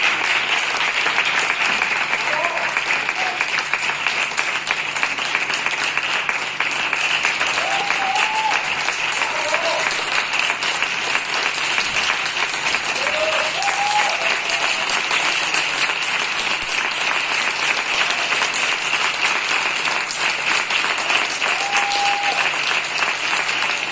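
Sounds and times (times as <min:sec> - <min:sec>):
audience applauding: 0:00.0 - 0:23.9.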